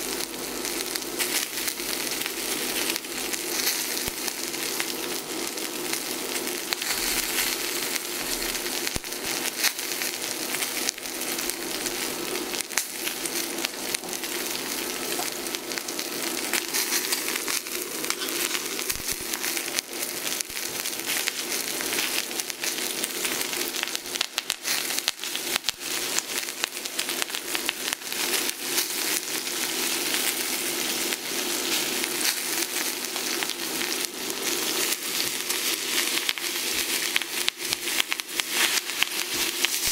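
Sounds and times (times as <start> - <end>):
crackles and pops: 0.0 - 39.9
steak sizzling in a skillet: 0.0 - 39.9.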